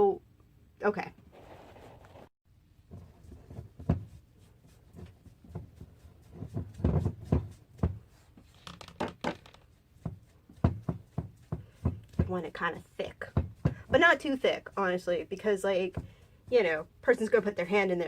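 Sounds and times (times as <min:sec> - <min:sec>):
sponge brush dabbing cloth: 0:01.3 - 0:08.6, 0:09.6 - 0:18.0.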